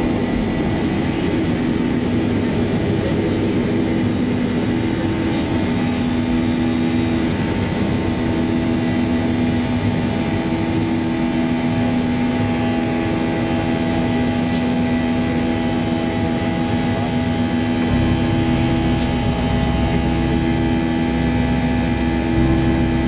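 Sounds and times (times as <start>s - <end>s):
jet engines running: 0.0s - 23.0s
hum tones: 2.8s - 23.0s.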